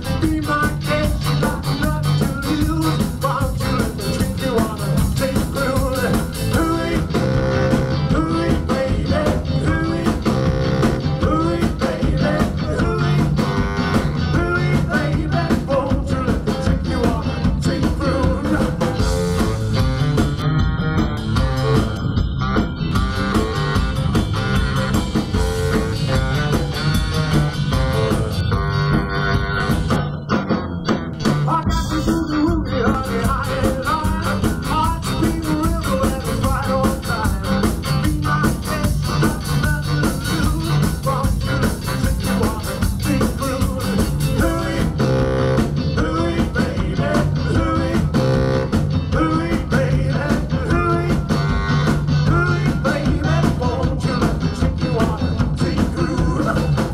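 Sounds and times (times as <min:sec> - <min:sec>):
bass saxophone: 0:00.0 - 0:56.9
drums: 0:00.0 - 0:56.9
electric guitar: 0:00.0 - 0:56.9
rock and roll band playing: 0:00.0 - 0:56.9.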